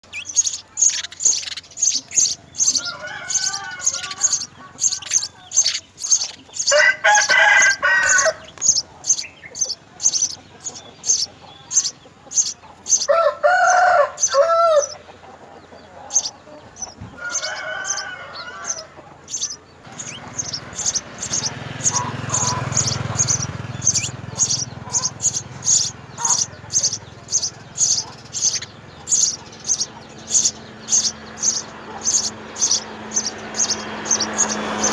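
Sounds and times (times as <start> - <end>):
longer loud bird call: 0.0 - 15.1, 15.9 - 34.9
sparrows chirping: 0.0 - 34.9.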